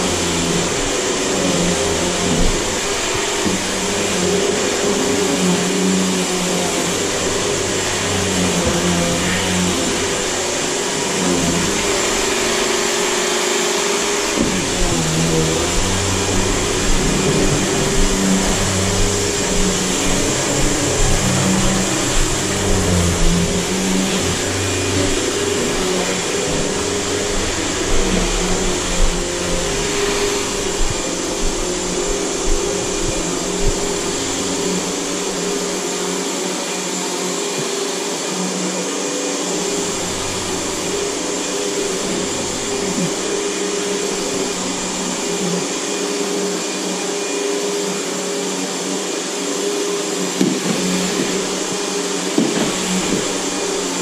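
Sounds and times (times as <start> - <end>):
vacuum cleaner whining: 0.0 - 54.0.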